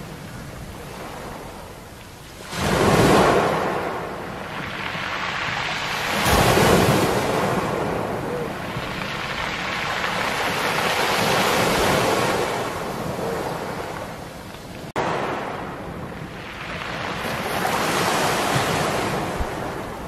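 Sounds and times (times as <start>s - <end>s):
small waves breaking: 0.0s - 20.0s.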